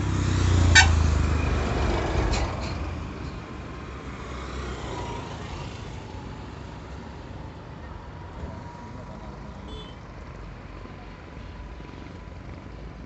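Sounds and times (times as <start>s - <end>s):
road vehicle passing: 0.0s - 13.0s.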